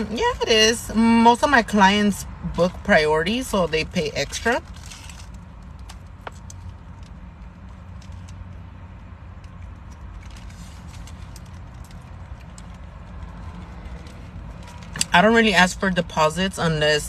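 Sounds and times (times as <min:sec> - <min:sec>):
low rumble of car: 0:00.0 - 0:17.0.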